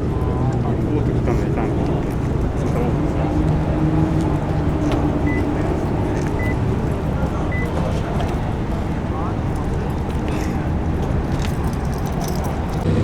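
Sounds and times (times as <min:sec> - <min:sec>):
car engines idling: 0:00.0 - 0:13.0
pitched hum: 0:00.7 - 0:12.9.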